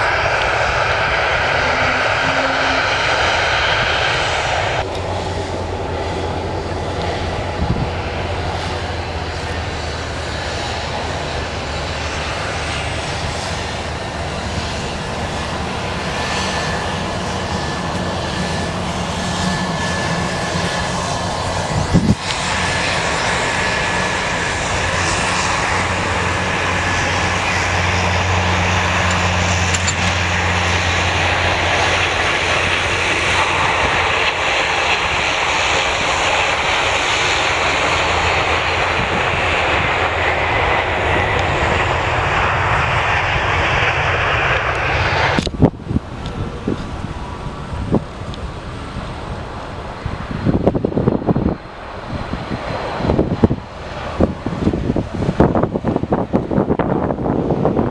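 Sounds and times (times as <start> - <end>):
jet engines roaring: 0.0 - 57.9.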